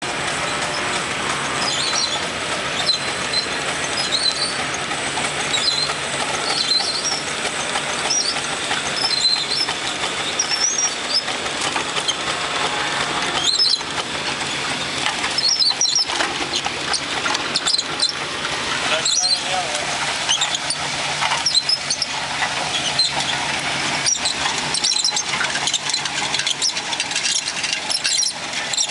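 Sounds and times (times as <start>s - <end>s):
high squeaks: 0.0s - 28.9s
steam traction engine running: 0.0s - 28.9s.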